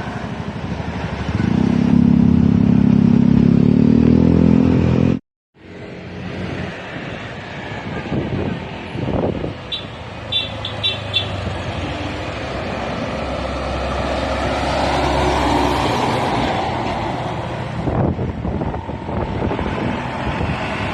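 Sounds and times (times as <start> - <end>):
heavy vehicle passing: 0.0 - 20.9.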